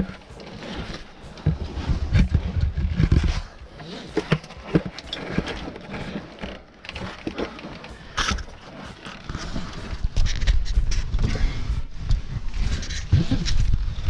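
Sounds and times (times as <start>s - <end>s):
low rumbling handling noise: 0.0s - 14.0s.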